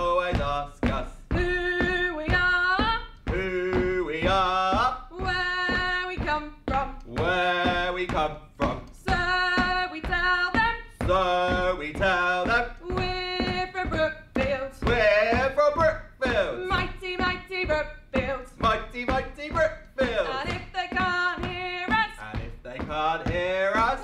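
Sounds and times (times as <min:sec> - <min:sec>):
man and woman singing: 0:00.0 - 0:24.0.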